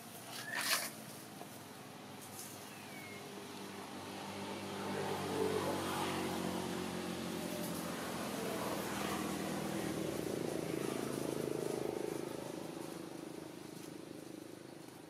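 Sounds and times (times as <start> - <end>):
vehicle engine running: 2.8 - 15.0.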